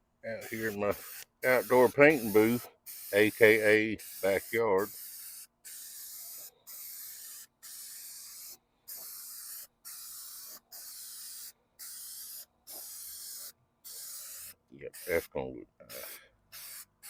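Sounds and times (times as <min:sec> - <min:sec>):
spray bursts hissing: 0:00.4 - 0:15.3.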